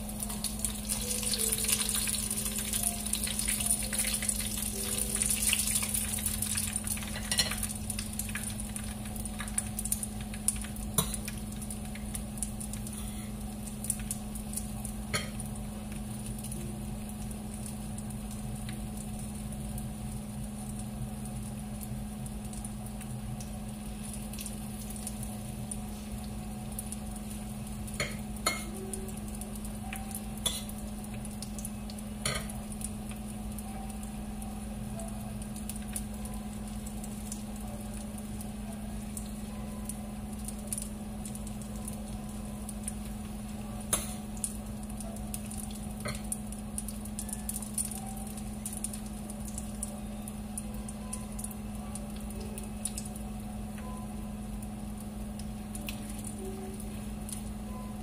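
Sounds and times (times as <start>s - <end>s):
dumplings sizzling in a pan: 0.0s - 58.0s.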